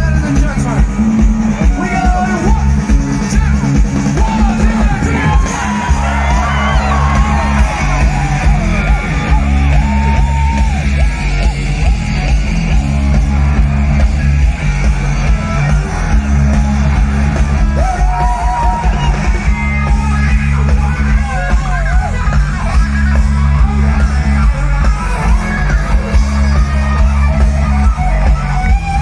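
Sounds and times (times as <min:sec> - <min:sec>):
crowd yelling along: 0:00.0 - 0:29.0
rock band playing live: 0:00.0 - 0:29.0.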